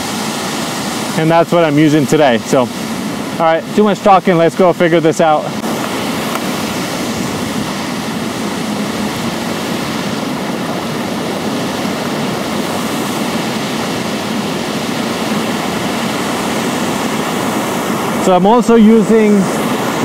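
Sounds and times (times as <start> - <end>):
creek flowing: 0.0 - 20.0
waterfall rushing: 0.0 - 20.0.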